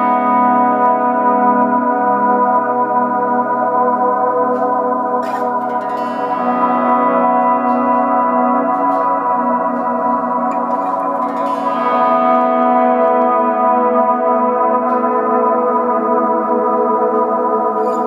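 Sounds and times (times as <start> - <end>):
electric guitar chords with reverb: 0.0 - 18.0.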